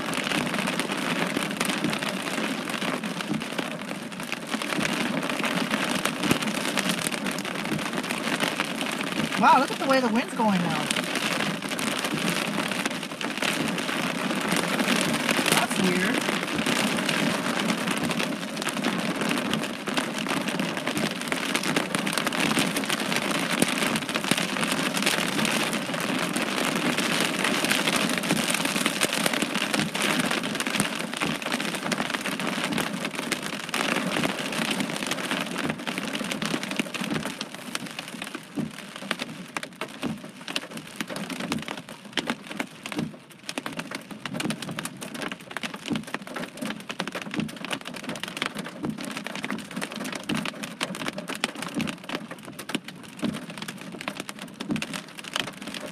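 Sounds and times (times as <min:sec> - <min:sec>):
heavy rain pattering: 0:00.0 - 0:55.9.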